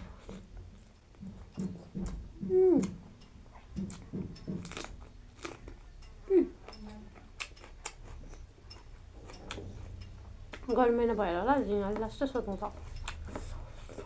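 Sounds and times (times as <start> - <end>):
wet chewing and lip smacking: 0.0 - 14.0.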